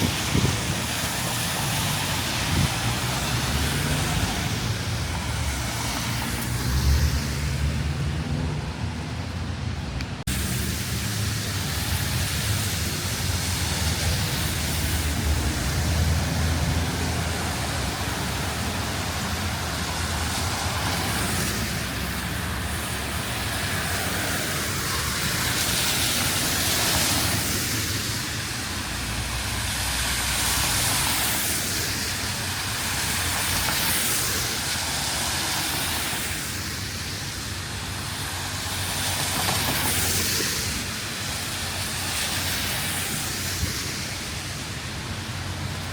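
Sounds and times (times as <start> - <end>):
wet tyres hissing: 0.0 - 8.2, 10.2 - 45.9
rain hissing: 0.0 - 8.8, 10.2 - 45.9.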